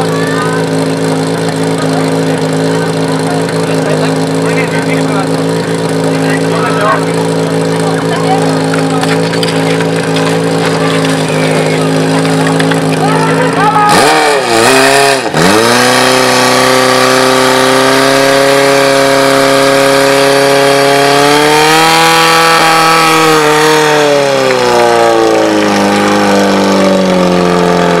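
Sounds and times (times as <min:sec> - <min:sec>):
pump engine at full throttle: 0:00.0 - 0:28.0.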